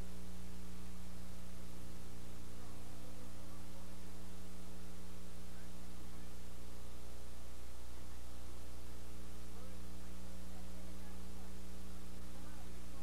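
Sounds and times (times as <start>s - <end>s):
constant hiss: 0.0s - 13.0s
electrical mains hum: 0.0s - 13.0s.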